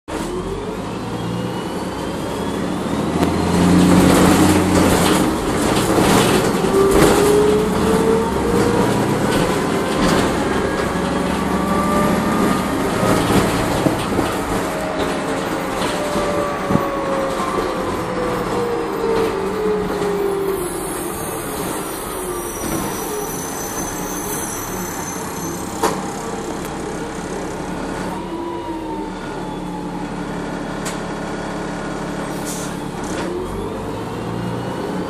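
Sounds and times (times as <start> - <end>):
bus engine drone: 0.1 - 35.0.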